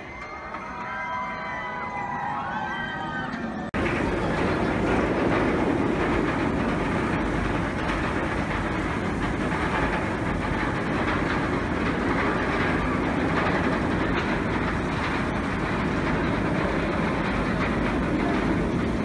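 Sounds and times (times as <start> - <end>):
ride train wheels rumbling on track: 0.0 - 19.0.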